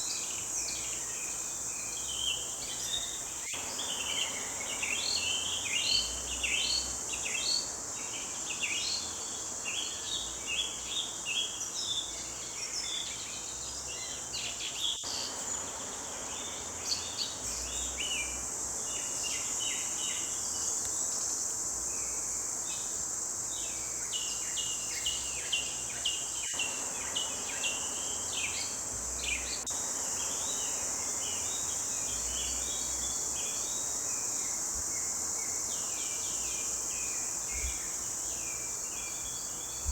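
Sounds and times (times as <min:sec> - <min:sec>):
forest birds chirping: 0:00.0 - 0:39.9
insects high-pitched drone: 0:00.0 - 0:39.9.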